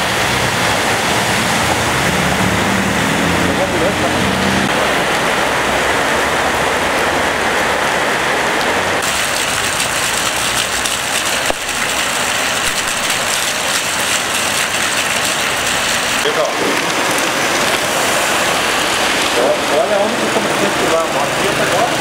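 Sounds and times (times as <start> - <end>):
cars splashing through water: 0.0 - 22.0
heavy rain pouring: 0.0 - 22.0.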